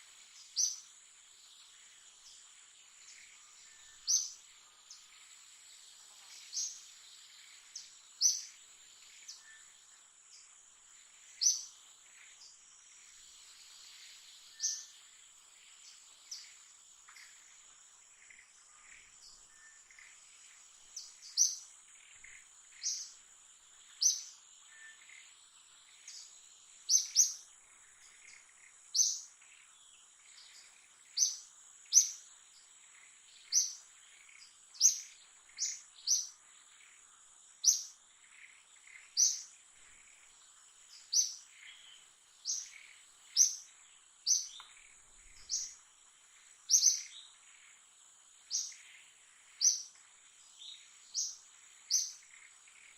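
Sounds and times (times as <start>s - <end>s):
insects droning: 0.0s - 52.9s
bird chirping: 0.1s - 52.9s.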